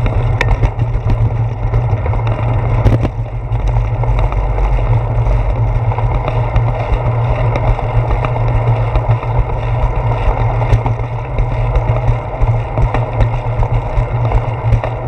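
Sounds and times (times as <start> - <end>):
bicycle knocks from bumps: 0.0 - 15.0
wind rumbling on microphone: 0.0 - 15.0.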